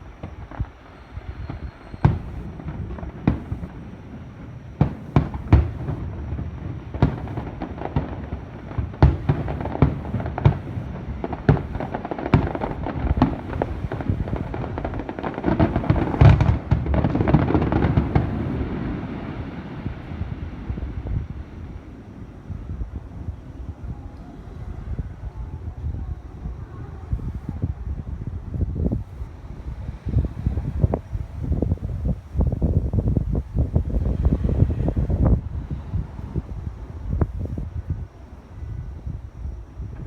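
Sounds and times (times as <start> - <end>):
crackling firework bursts: 0.0 - 40.0
fireworks booming: 0.0 - 40.0.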